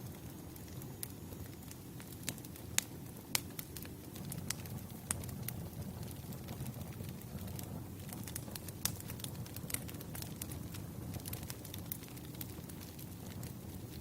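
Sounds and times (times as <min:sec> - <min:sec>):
sharp pops from fire: 0:00.0 - 0:14.0
wood fire crackling: 0:00.0 - 0:14.0.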